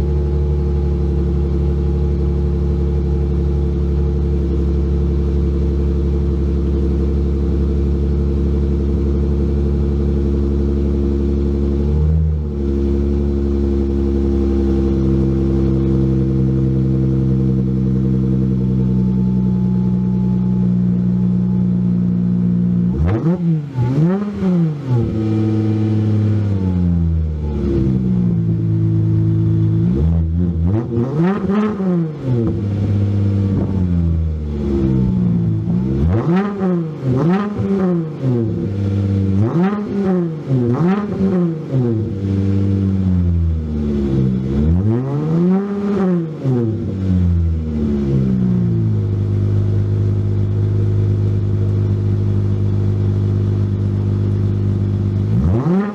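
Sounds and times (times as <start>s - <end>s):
car engine idling and revving: 0.0s - 55.9s.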